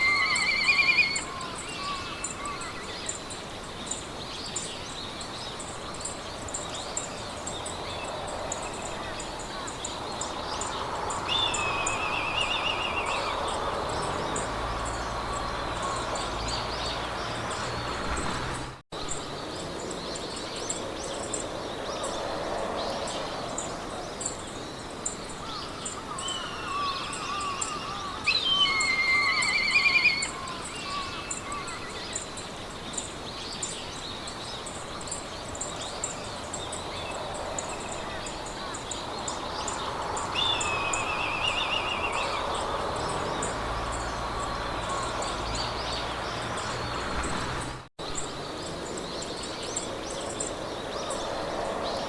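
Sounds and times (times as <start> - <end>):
songbirds calling and trilling: 0.0 - 52.0
wind through grass: 0.0 - 52.0.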